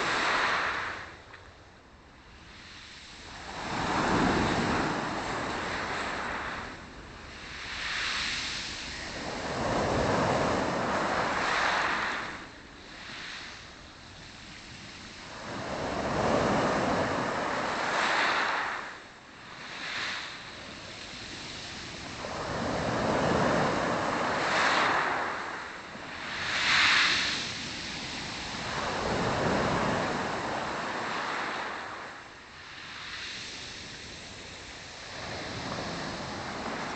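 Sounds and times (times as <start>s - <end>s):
waves breaking on shore: 0.0s - 1.4s, 2.4s - 36.9s.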